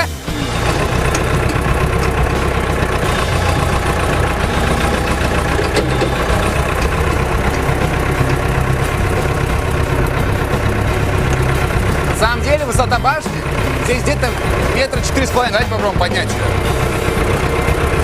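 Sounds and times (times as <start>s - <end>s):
diesel forklift engine idling: 0.0s - 18.0s.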